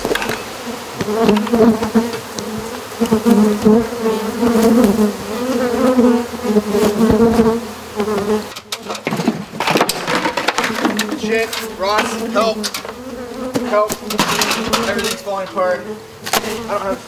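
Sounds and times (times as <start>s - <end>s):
honey bees buzzing loudly: 0.0s - 17.0s.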